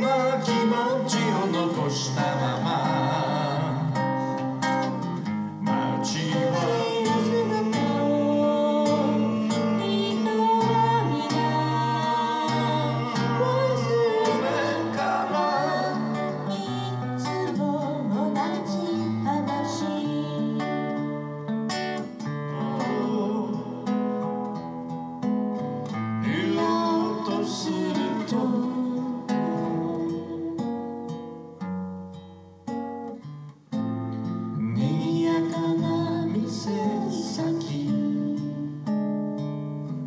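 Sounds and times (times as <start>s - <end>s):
person singing: 0.0s - 24.5s, 26.2s - 31.3s, 34.6s - 38.9s
acoustic guitar strumming: 0.0s - 40.0s.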